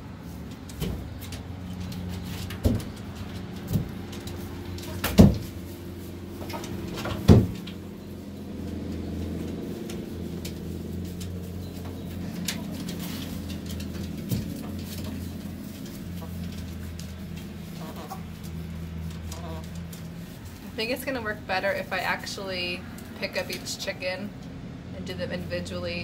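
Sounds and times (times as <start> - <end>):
chickens murmuring: 0.0 - 26.0.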